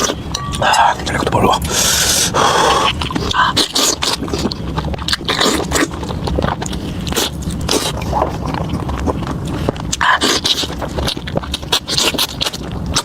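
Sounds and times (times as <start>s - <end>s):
person biting and chewing: 0.0s - 13.0s.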